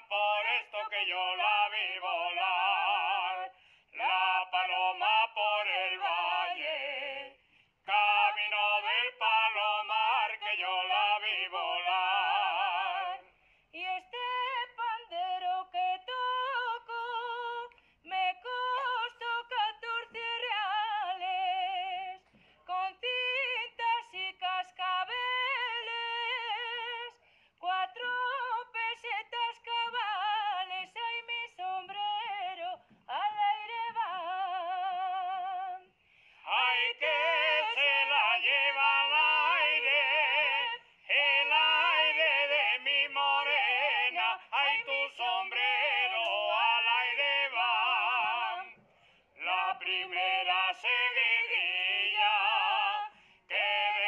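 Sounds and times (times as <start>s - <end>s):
woman singing with vibrato: 0.0s - 7.3s, 7.9s - 48.8s, 49.4s - 54.0s.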